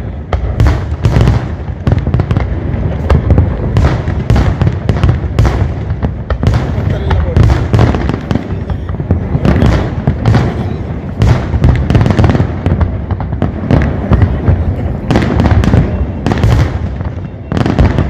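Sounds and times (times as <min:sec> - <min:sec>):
fireworks bursting: 0:00.0 - 0:18.0.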